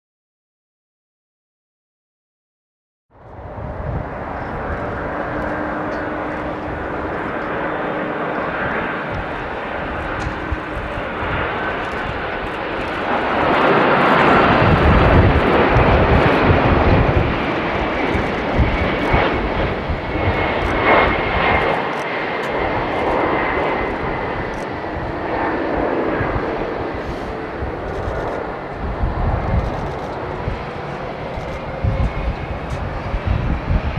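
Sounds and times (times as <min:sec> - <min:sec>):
jet engines roaring: 0:03.2 - 0:33.9.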